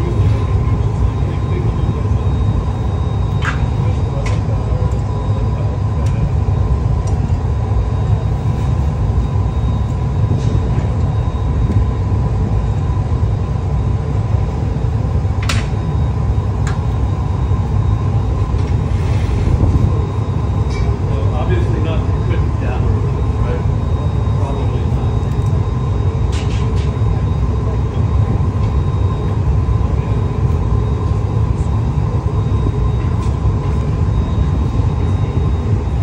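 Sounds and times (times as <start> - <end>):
faint steady whine: 0.0 - 36.0
gas burners and blowers rumbling: 0.0 - 36.0.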